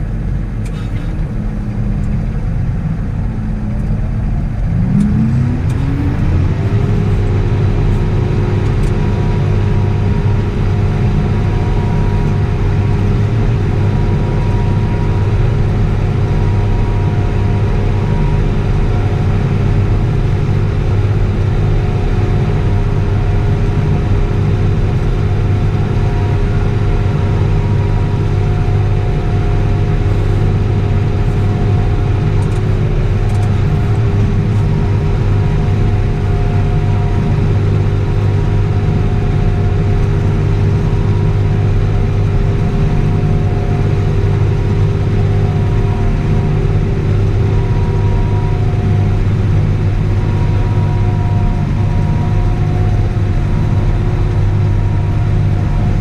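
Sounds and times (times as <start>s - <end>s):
steady whine: 0.0s - 56.0s
tractor engine running: 0.0s - 56.0s.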